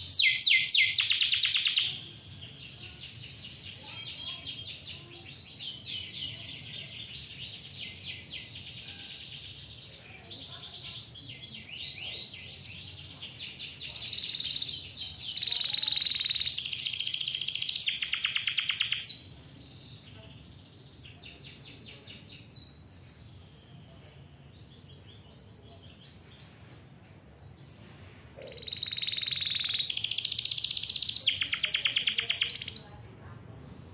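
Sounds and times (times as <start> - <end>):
canary singing trills: 0.0 - 26.5, 27.6 - 33.0.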